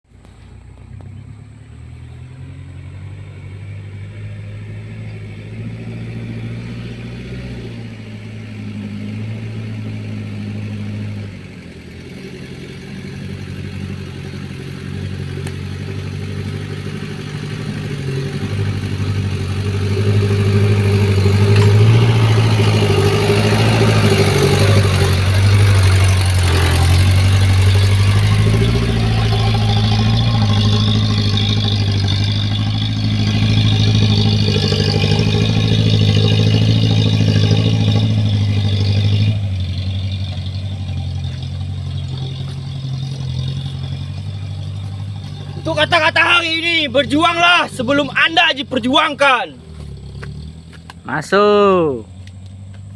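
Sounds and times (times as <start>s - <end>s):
car engine labouring uphill: 0.0s - 52.9s.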